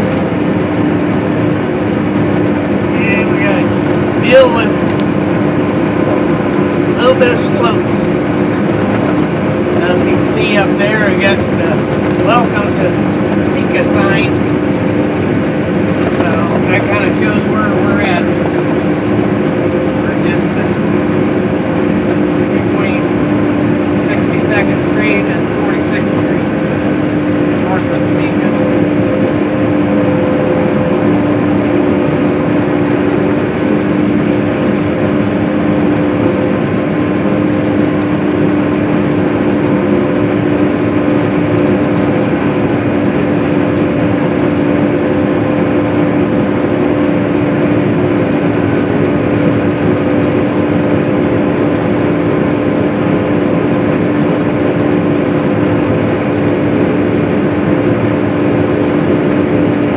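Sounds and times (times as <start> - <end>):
swather engine drone: 0.0 - 59.9.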